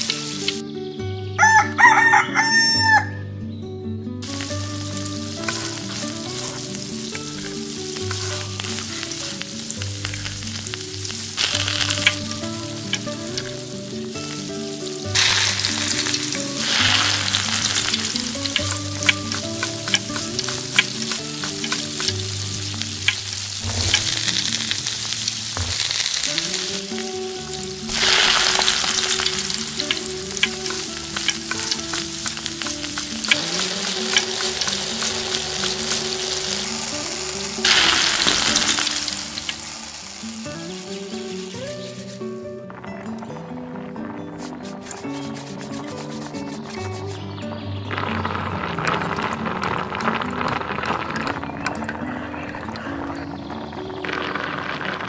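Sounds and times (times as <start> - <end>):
vegetables sizzling in hot oil: 0.0 - 0.6, 4.2 - 42.5, 47.9 - 52.2, 52.8 - 55.0.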